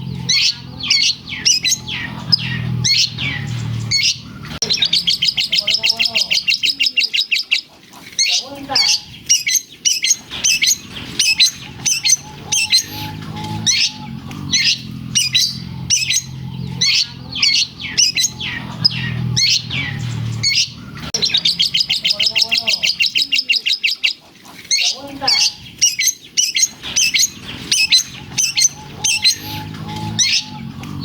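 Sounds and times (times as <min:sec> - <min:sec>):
bird singing squeaky chirps: 0:00.0 - 0:31.0
rapid bird trill: 0:00.0 - 0:31.0.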